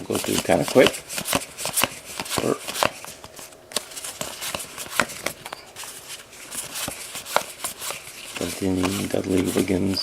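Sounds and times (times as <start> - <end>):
cards rustling: 0.0 - 10.0
cards snapping and clicking: 0.2 - 5.6, 6.5 - 9.6.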